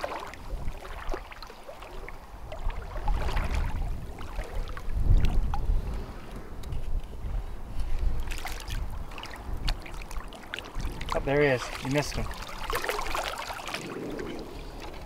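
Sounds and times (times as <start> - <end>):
dip net moving through water: 0.0 - 5.4, 8.2 - 15.0
seawater sloshing around legs: 0.0 - 6.9, 7.7 - 15.0
wind rumbling on microphone: 0.0 - 15.0.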